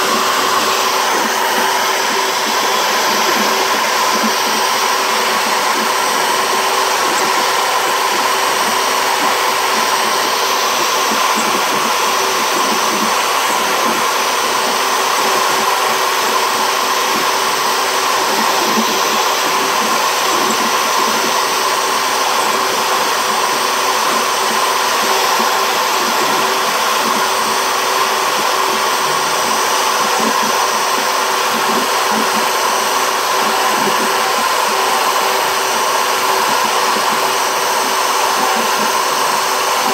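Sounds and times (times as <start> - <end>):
bit cutting plywood rumble: 0.0 - 39.9
router spindle whine: 0.0 - 39.9.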